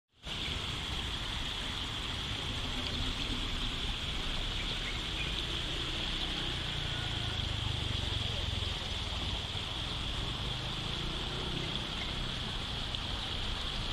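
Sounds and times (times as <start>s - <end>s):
high hiss: 0.2s - 13.9s
road traffic rumble: 0.2s - 13.9s.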